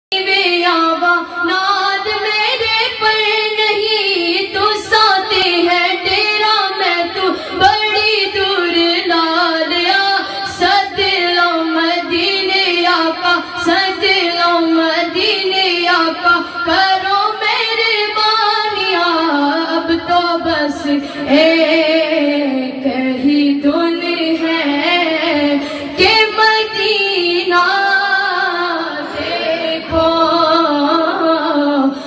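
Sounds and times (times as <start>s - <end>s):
high voice singing devotional song: 0.1s - 32.0s.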